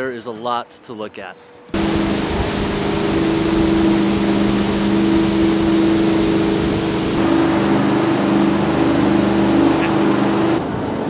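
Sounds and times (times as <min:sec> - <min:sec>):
motorboat engine humming: 0:01.7 - 0:11.0
rushing water: 0:01.8 - 0:11.0
rushing wind: 0:01.8 - 0:11.0.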